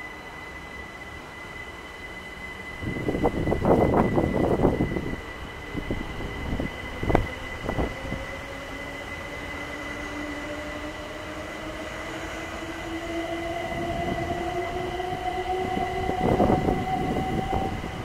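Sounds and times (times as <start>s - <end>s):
train motor whine rising: 0.0s - 18.0s.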